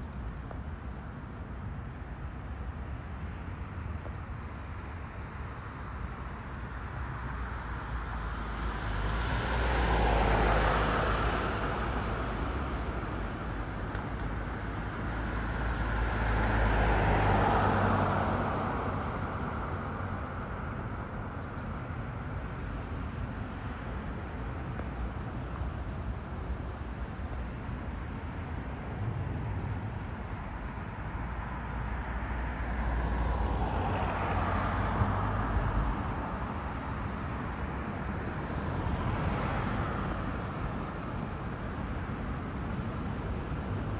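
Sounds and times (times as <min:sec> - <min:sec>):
steady traffic hum: 0:00.0 - 0:43.9
cars passing: 0:02.7 - 0:43.9.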